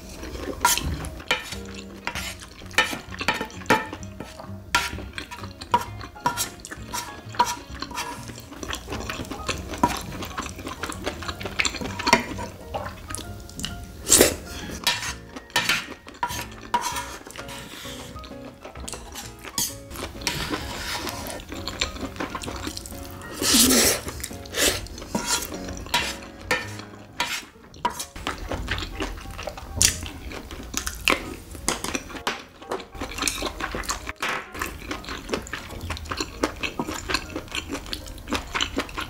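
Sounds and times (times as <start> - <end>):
wooden spoon scraping a pan: 0.0 - 37.2.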